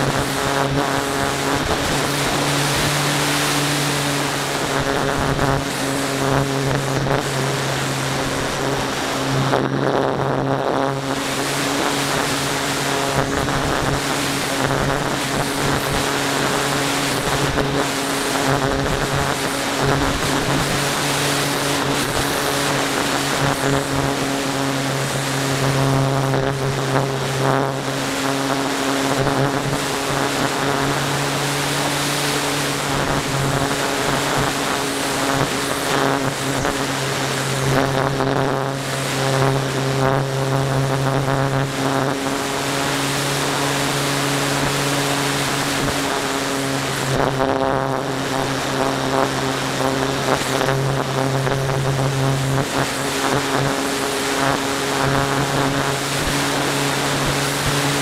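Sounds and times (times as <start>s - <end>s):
model airplane motor buzzing: 0.0s - 58.0s
wind rushing over microphone: 0.0s - 58.0s.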